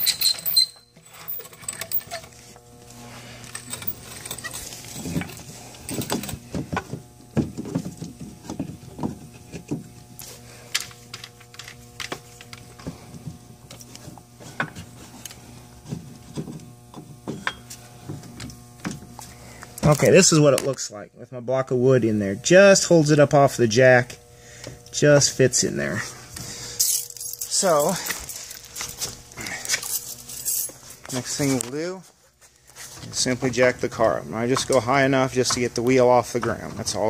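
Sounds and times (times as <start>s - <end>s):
steady low hum: 0.6s - 37.0s.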